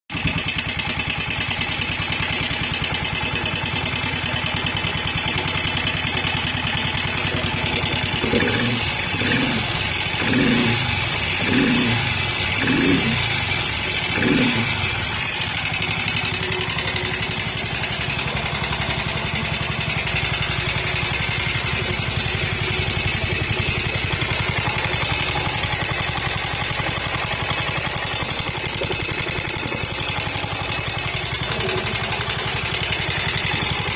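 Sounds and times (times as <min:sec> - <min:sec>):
motorcycle engine idling: 0:00.1 - 0:33.9
engine revving: 0:01.2 - 0:33.9.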